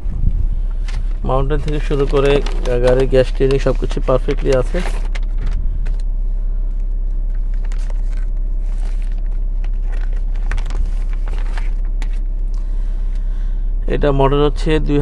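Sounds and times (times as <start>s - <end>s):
air conditioning running: 0.0s - 15.0s
car engine idling: 0.0s - 15.0s.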